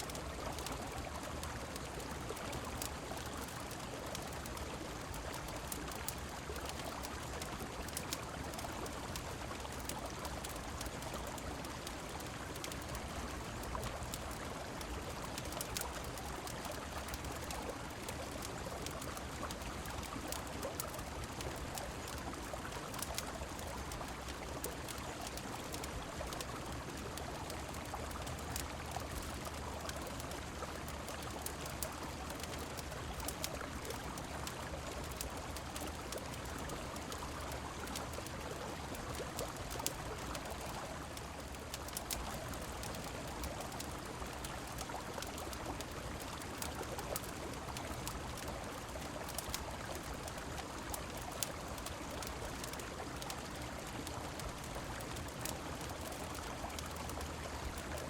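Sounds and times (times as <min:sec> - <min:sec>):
falling rain: 0:00.0 - 0:58.0
fireplace crackling: 0:00.4 - 0:57.8.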